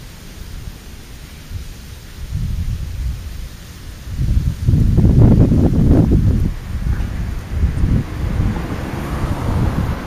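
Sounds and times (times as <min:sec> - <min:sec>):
wind buffeting the microphone: 0:01.4 - 0:10.0.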